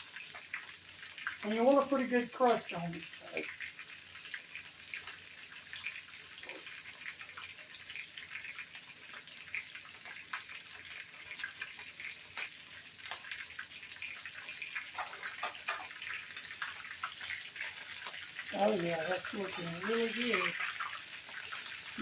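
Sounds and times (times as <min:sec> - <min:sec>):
chicken sizzling in hot oil: 0:00.0 - 0:22.0
oil crackling and popping: 0:00.0 - 0:22.0.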